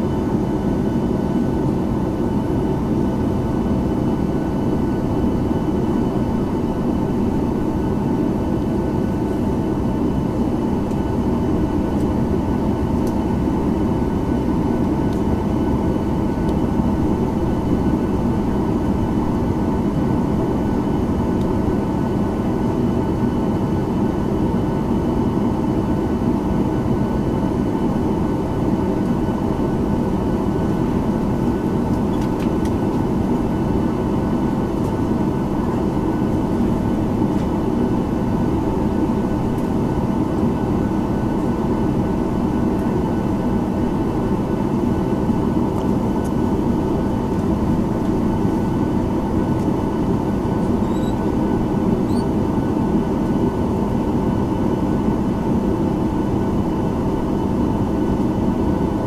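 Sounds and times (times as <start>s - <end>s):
aircraft cabin hum and rumble: 0.0s - 59.0s.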